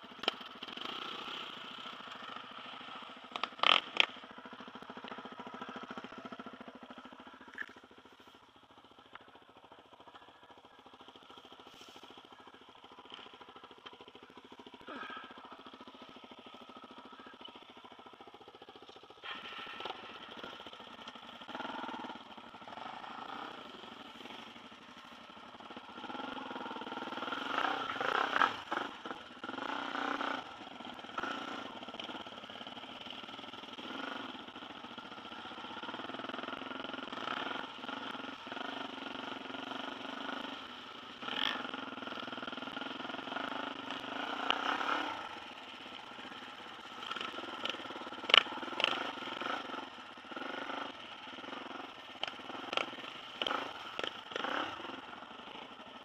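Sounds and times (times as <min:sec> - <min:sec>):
dirt bike engines idling and revving: 0:00.0 - 0:56.0.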